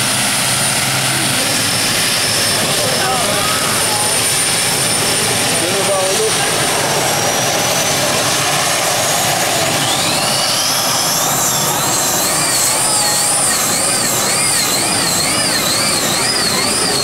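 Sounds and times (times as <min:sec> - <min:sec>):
high wavering whine: 0:00.0 - 0:17.0.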